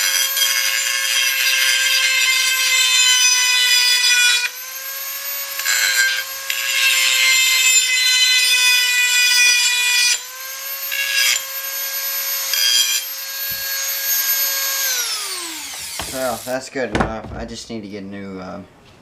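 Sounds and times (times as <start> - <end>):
grinding wheel on steel: 0.0 - 16.5
rotary tool high whine: 0.0 - 16.6.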